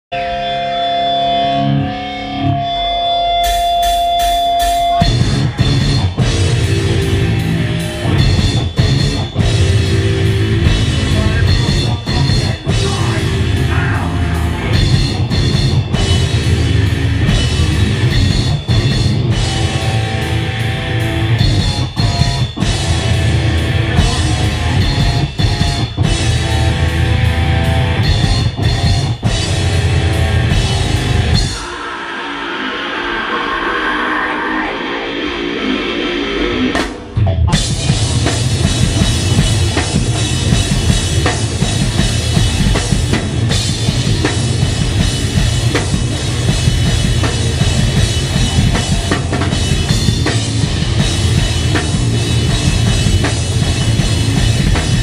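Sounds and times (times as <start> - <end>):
bass guitar: 0.0 - 32.0, 33.2 - 55.0
distorted guitars: 0.0 - 55.0
electric guitars ringing: 0.1 - 33.5, 35.2 - 55.0
drum kit with cymbals: 3.3 - 31.9, 36.7 - 55.0.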